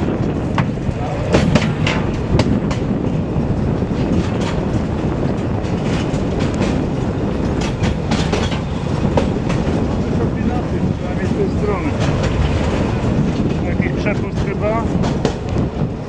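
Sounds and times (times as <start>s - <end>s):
track clicks and clacks: 0.0s - 16.0s
train wheels rumbling on rails: 0.0s - 16.0s.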